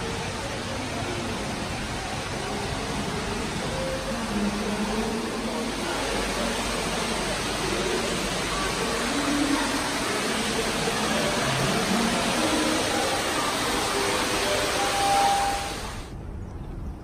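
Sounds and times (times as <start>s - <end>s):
faint murmur of voices: 0.0s - 16.1s
indoor fountain water rushing: 0.0s - 16.2s.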